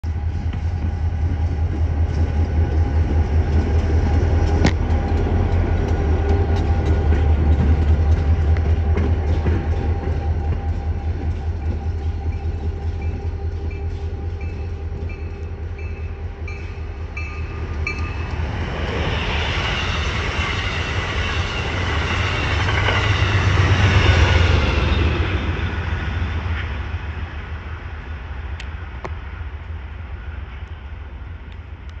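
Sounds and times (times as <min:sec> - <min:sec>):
diesel locomotive engine hum: 0:00.0 - 0:32.0
passenger train rushing past: 0:00.0 - 0:32.0.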